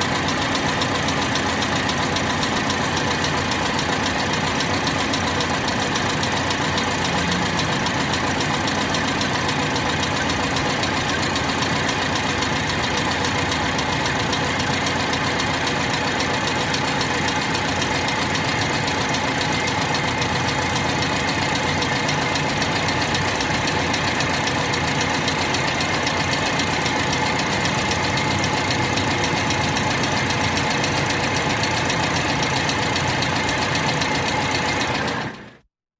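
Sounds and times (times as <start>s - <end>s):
car engine idling: 0.0s - 35.7s.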